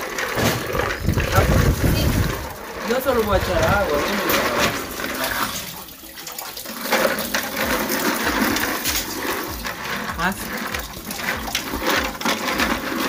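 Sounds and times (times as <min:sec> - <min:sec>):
water splashing in metal bowl: 0:00.0 - 0:13.0.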